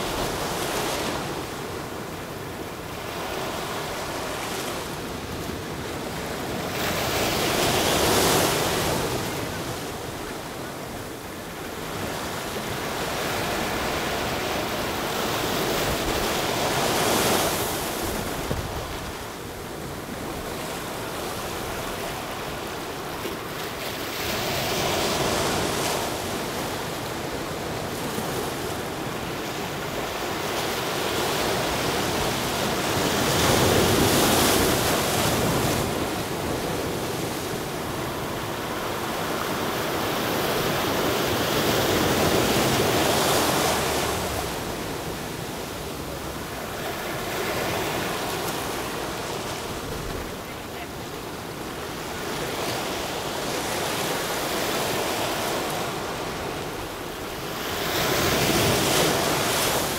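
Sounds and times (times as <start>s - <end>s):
sea surf washing in: 0.0s - 59.9s.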